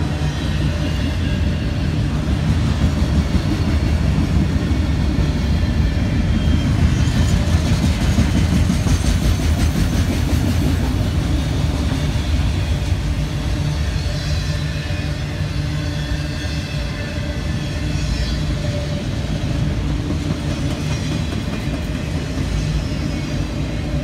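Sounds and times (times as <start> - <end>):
diesel locomotives rumbling: 0.0 - 24.0
train wheels clattering on rails: 0.0 - 24.0.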